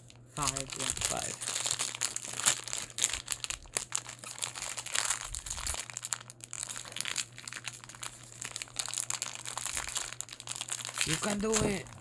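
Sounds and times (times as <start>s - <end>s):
foil packet crinkling and tearing: 0.0s - 12.0s.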